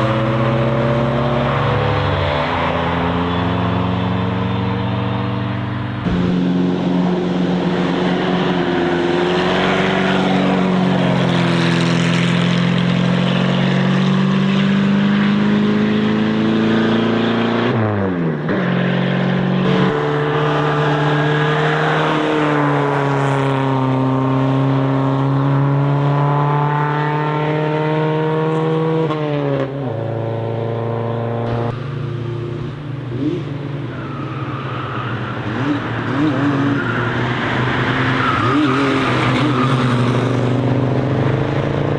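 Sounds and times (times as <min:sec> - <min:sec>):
race cars driving past: 0:00.0 - 0:41.9.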